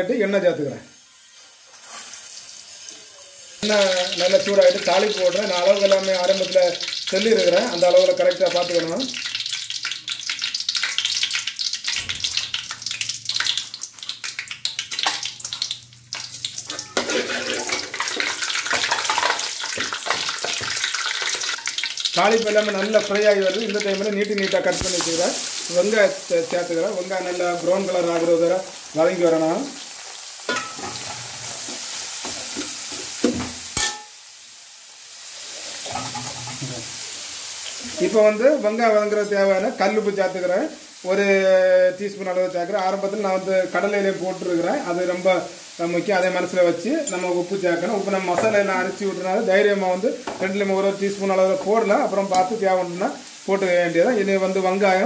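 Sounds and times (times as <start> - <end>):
spices crackling in hot oil: 0.9 - 55.0.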